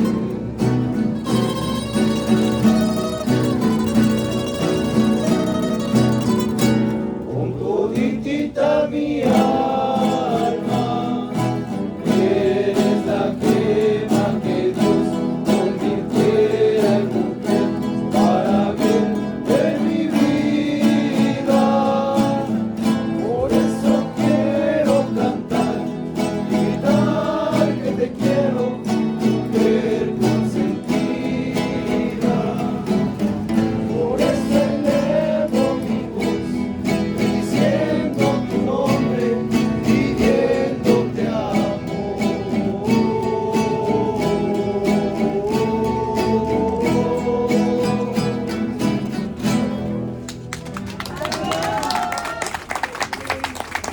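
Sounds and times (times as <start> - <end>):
voices singing together: 0.0 - 49.8
strummed and plucked guitars: 0.0 - 51.6.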